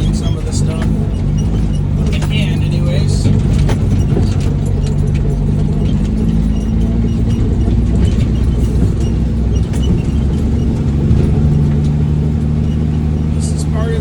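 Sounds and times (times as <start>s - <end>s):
cab rattles and clicks: 0.0s - 14.0s
diesel truck engine running: 0.0s - 14.0s.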